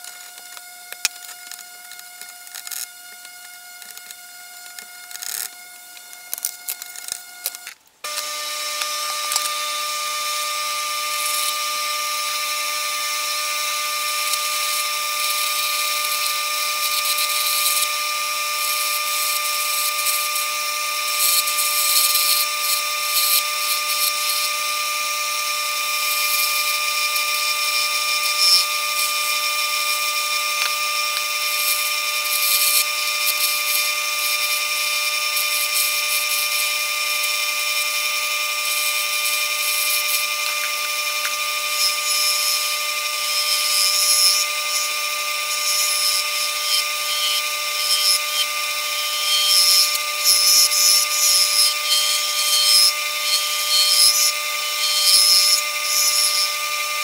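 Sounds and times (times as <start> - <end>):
turning tool scraping acrylic: 0.0 - 57.0
wood lathe motor whine: 0.0 - 57.0.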